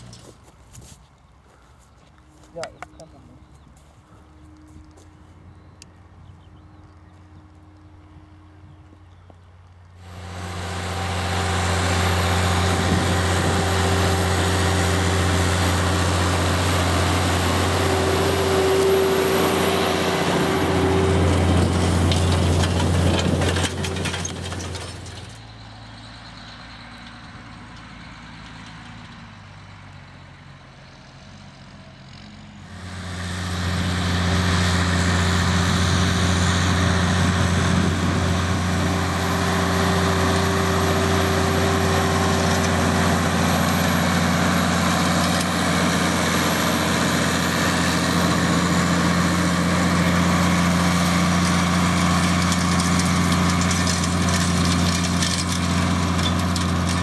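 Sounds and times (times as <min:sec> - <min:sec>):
tractor diesel engine under load: 0:09.9 - 0:57.0.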